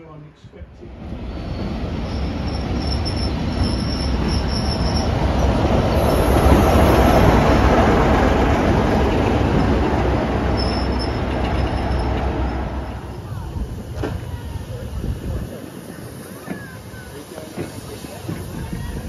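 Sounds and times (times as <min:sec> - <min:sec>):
rail and wheel noise: 0:00.0 - 0:19.0
diesel locomotive engine drone: 0:00.6 - 0:19.0.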